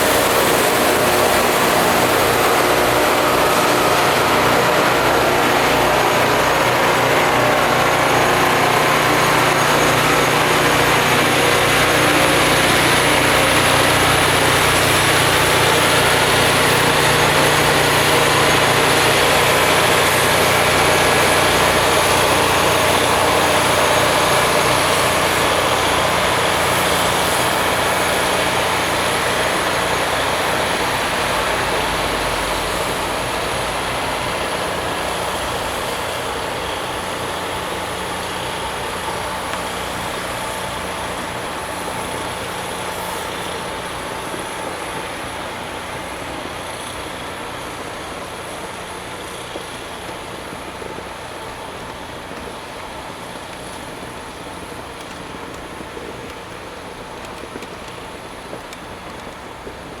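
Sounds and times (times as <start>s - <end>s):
rail grinding machine grinding: 0.0s - 60.0s.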